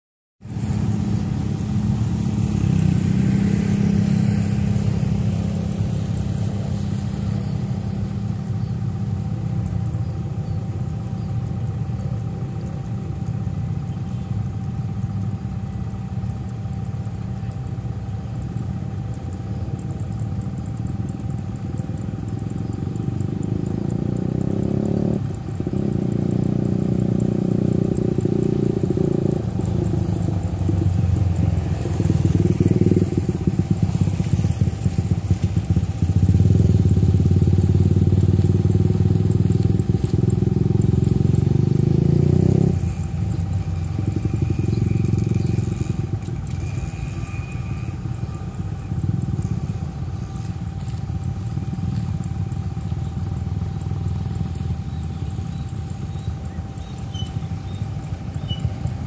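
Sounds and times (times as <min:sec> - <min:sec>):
motorcycle engines running: 0:00.4 - 0:59.0
road traffic rumble: 0:00.4 - 0:59.0.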